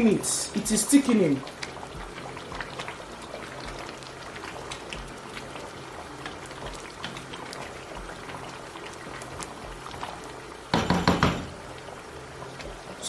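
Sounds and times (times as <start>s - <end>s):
soup bubbling in a pot: 0.0s - 13.0s.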